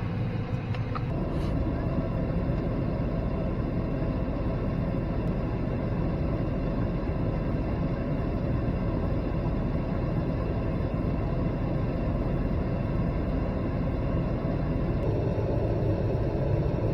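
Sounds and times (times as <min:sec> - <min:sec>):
vehicle rumbling: 0:00.0 - 0:16.9.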